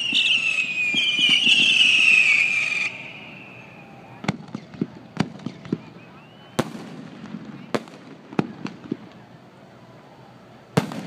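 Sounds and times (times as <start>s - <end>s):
whistling firework: 0.0s - 11.0s.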